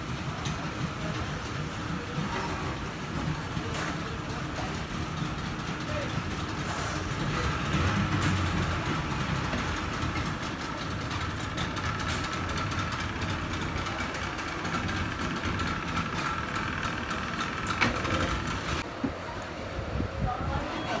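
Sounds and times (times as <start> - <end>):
outboard motors idling: 0.0 - 19.2.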